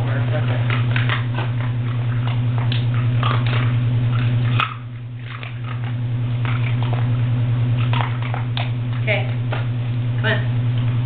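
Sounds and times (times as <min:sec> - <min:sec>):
dog crunching treats: 0:00.0 - 0:09.8
low hum: 0:00.0 - 0:11.0.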